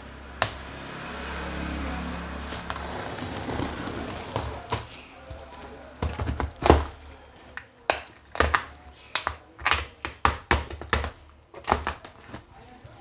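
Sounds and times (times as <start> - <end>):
plastic wrap crinkling: 2.4 - 13.0.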